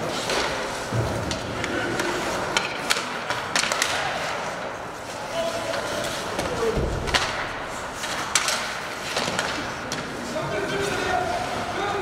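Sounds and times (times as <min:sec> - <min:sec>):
hockey sticks and puck clacking: 0:00.0 - 0:12.0
skate blades scraping ice: 0:00.0 - 0:12.0.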